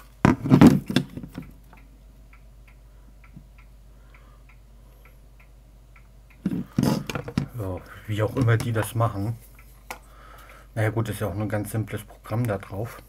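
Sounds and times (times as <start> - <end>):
faint even ticking: 1.4 - 12.7.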